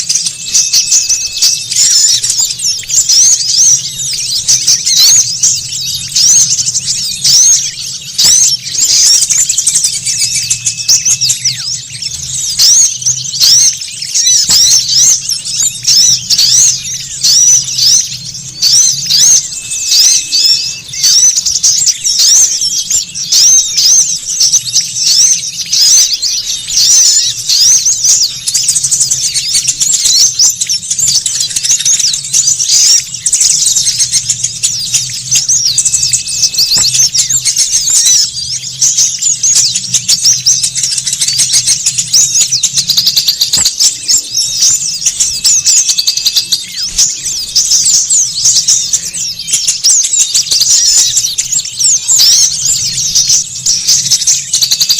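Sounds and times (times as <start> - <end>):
songbirds chattering: 0.0 - 54.9.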